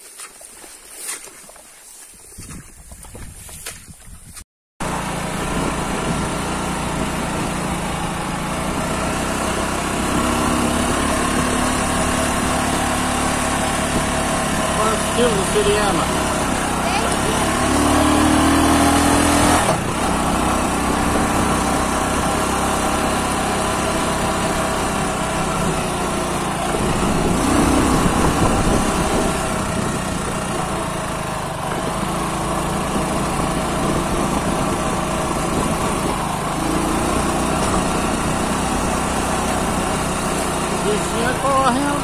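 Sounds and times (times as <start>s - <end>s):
small vehicle engine running: 4.8s - 42.0s.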